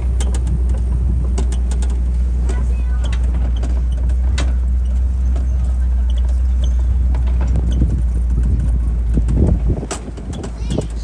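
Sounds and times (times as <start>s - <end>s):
knocks and rattles: 0.0s - 11.0s
truck engine and road rumble: 0.0s - 11.0s.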